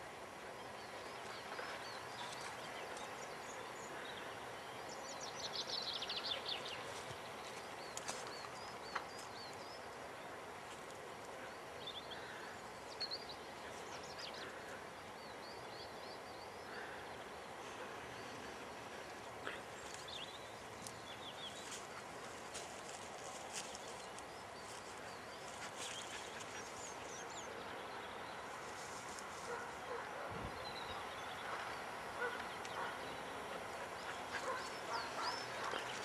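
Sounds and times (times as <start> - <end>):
steady outdoor hiss: 0.0 - 36.0
small birds chirping: 0.1 - 36.0.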